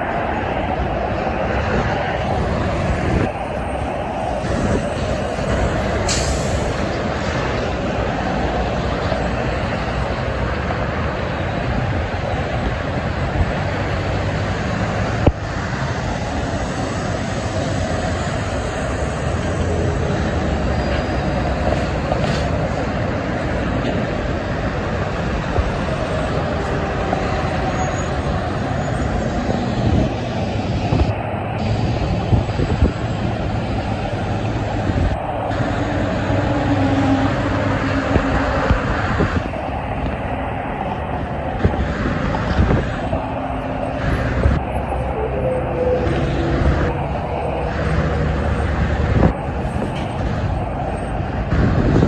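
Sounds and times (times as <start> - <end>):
freeway traffic: 0.0 - 52.0
wind buffeting microphone: 0.0 - 52.0.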